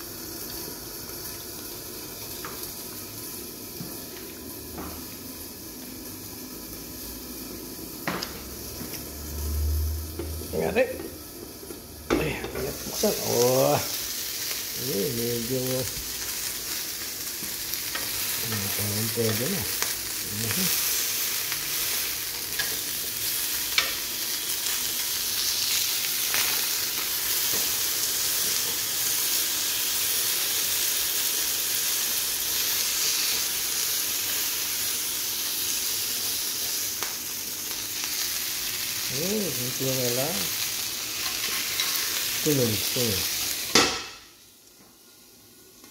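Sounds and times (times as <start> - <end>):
chicken sizzling in grill pan: 0.0 - 45.9.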